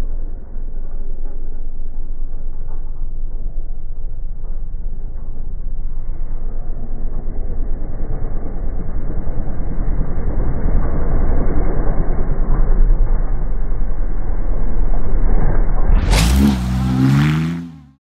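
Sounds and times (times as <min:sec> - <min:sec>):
buggy engine approaching: 0:00.0 - 0:18.0.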